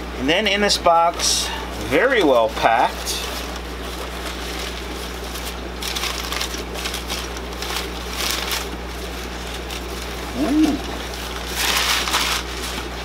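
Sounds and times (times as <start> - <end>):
steady low hum: 0.0 - 13.0
packing paper crinkling: 1.8 - 13.0.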